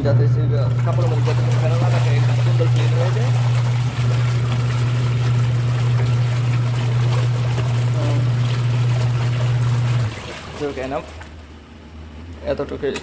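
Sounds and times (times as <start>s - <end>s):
washing machine motor hum: 0.0s - 13.0s
water churning in tub: 0.4s - 12.2s.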